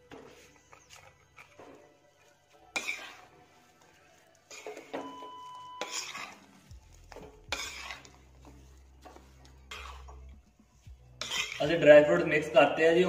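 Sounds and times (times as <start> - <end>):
spoon scraping in metal pan: 0.0 - 12.8.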